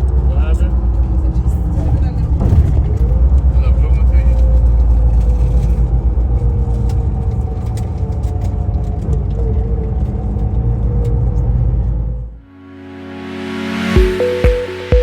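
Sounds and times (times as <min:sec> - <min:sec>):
engine and road rumble: 0:00.0 - 0:12.5.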